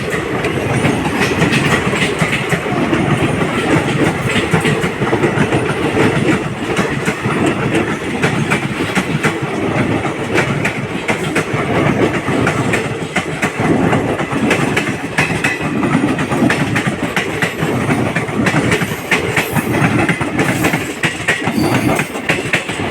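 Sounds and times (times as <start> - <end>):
train rumbling: 0.0 - 22.9.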